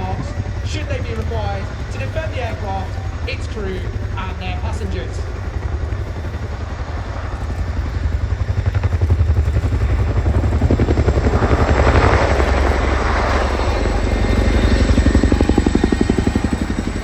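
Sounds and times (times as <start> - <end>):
helicopter rotors beating: 0.0 - 17.0.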